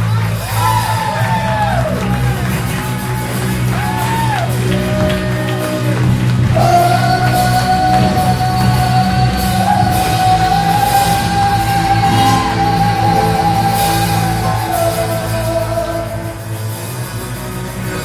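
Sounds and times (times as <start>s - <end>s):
singer holding high note: 0.1s - 17.0s.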